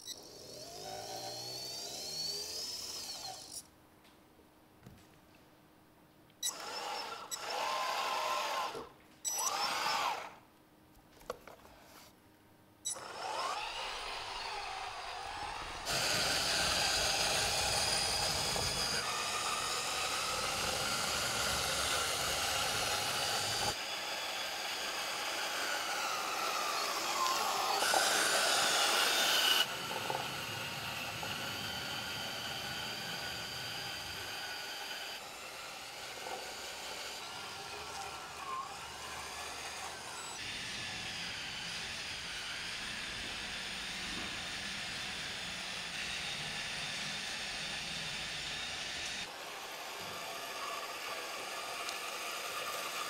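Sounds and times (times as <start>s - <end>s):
toy tractor motor whining: 0.0s - 3.7s, 6.4s - 10.4s, 12.9s - 53.0s.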